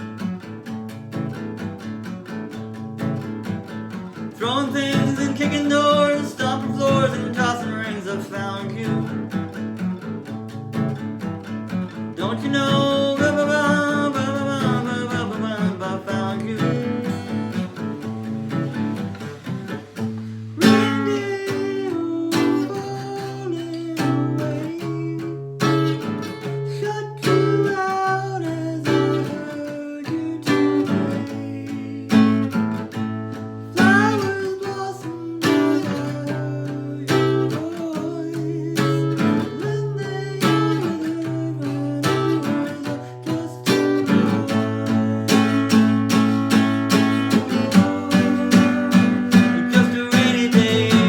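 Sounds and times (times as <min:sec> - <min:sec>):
acoustic guitar strumming chords: 0:00.0 - 0:51.0.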